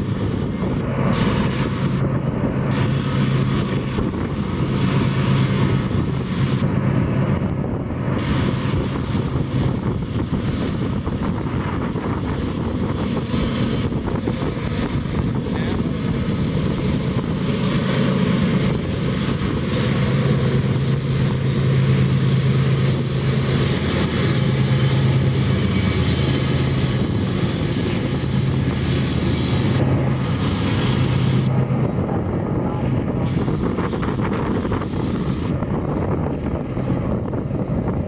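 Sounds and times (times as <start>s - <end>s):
diesel locomotives working hard: 0.0s - 38.0s.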